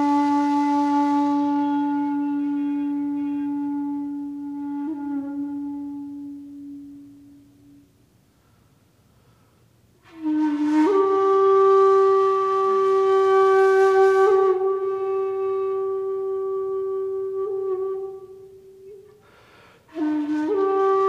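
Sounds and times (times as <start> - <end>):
breathy flute tone: 0.0 - 21.0.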